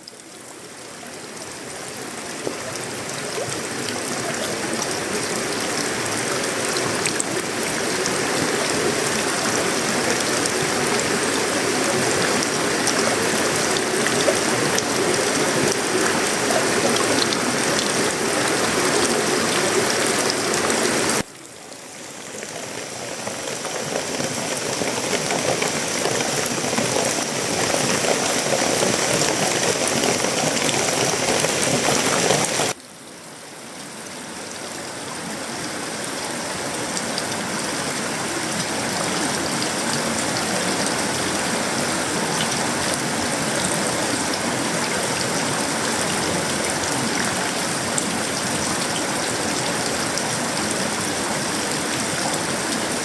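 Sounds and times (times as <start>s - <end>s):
rain on a metal roof: 0.0s - 53.0s.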